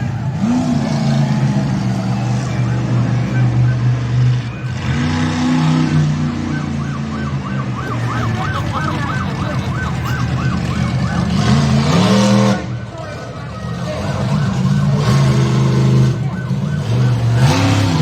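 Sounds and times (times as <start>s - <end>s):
monster truck engine: 0.0s - 18.0s
yelping siren-like warble: 0.0s - 18.0s.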